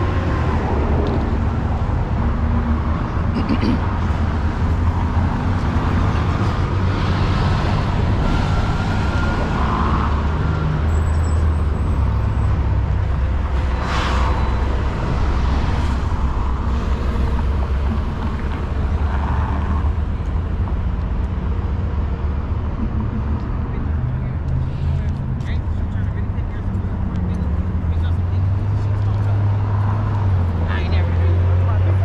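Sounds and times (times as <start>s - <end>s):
traffic engine rumble: 0.0s - 32.0s.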